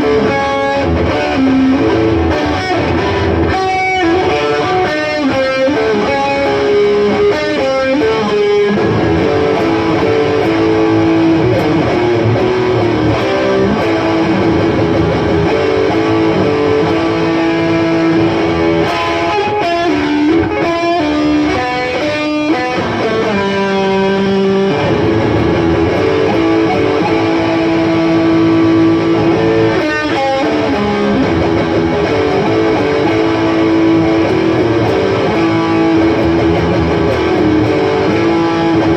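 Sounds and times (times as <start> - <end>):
guitar held notes: 0.0 - 38.9
strummed guitar chords: 0.0 - 38.9.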